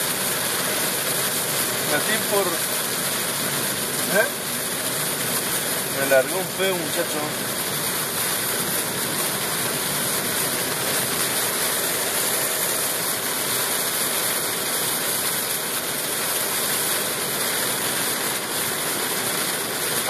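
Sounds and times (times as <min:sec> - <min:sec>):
heavy rain on a car: 0:00.0 - 0:20.0.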